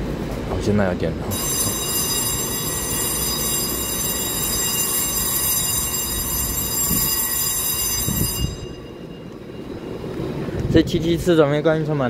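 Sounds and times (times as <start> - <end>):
electric train whine and hum: 1.2 - 12.0.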